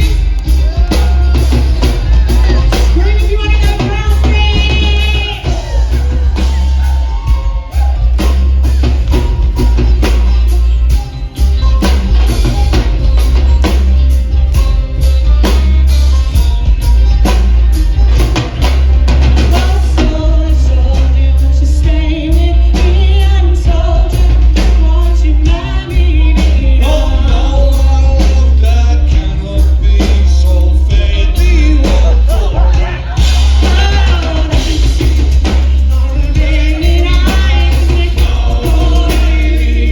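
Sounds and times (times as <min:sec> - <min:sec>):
person singing: 0:00.0 - 0:11.1, 0:17.2 - 0:39.9
folk-rock band playing: 0:00.0 - 0:39.9.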